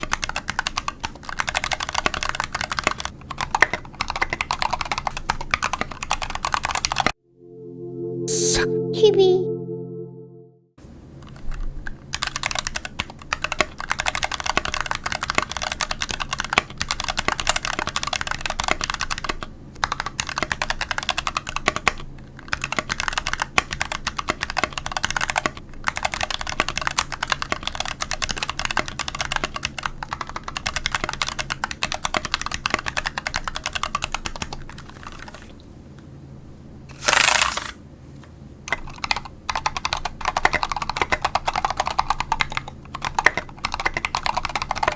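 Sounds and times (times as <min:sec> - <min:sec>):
typing on mechanical keyboard: 0:00.0 - 0:06.9, 0:12.2 - 0:35.4, 0:38.7 - 0:44.9.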